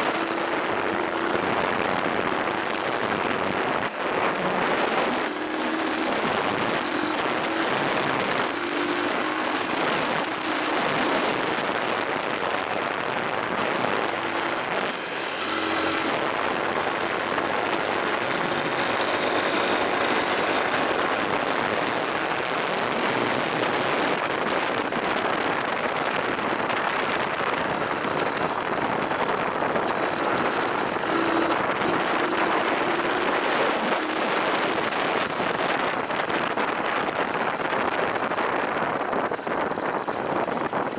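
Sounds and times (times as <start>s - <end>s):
dirt bike engine: 0.0s - 40.9s.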